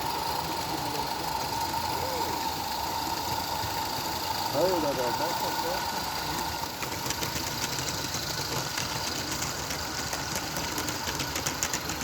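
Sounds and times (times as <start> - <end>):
steam locomotive exhaust beats: 0.0 - 12.0.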